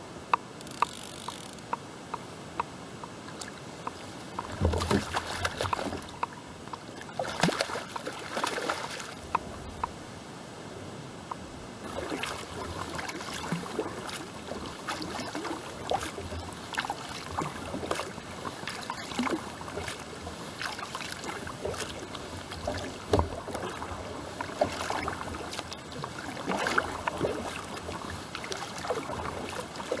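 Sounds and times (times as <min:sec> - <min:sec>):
kayak paddle strokes in water: 0:00.3 - 0:10.0, 0:11.3 - 0:30.0
water dripping from paddle: 0:00.3 - 0:10.0, 0:11.3 - 0:30.0.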